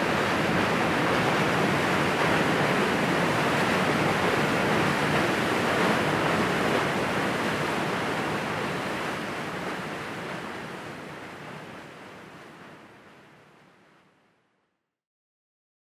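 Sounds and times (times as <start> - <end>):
water rushing from spillway: 0.0 - 13.2.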